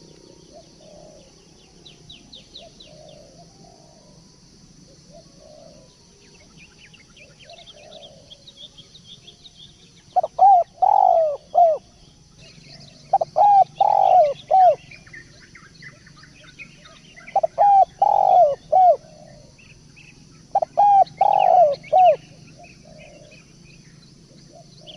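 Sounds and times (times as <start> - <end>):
dove cooing: 0.0 - 8.8, 10.1 - 24.9
small birds chirping faintly: 0.0 - 24.9.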